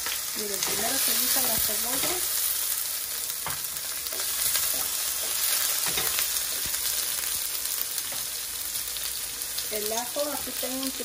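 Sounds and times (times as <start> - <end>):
onion sizzling in a pan: 0.0 - 11.0.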